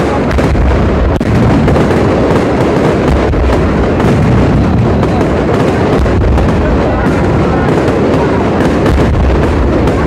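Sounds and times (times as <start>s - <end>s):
fireworks bursts and crackling: 0.0s - 10.0s.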